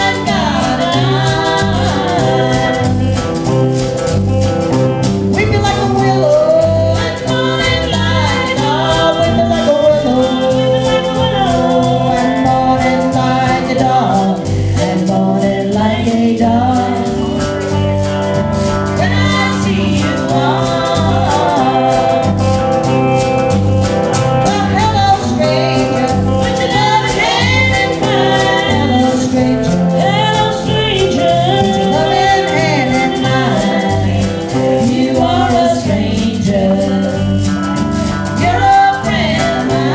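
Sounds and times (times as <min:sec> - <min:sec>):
live band music: 0:00.0 - 0:39.9
voices singing in harmony: 0:00.0 - 0:39.9.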